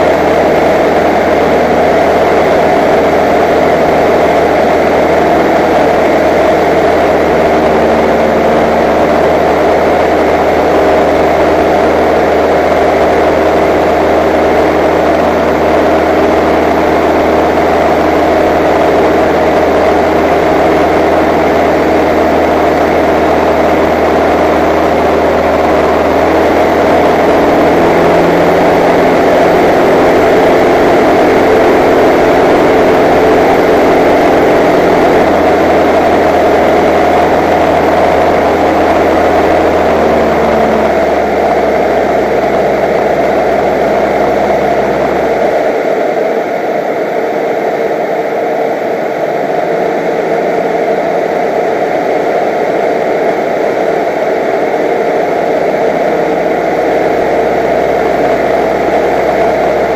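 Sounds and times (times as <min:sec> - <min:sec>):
light aircraft engine drone: 0:00.0 - 0:59.9.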